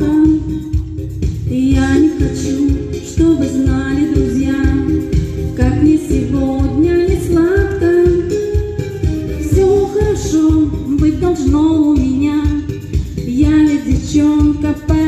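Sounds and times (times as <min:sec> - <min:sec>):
backing music with steady beat: 0:00.0 - 0:15.0
woman singing a pop ballad: 0:00.0 - 0:15.0.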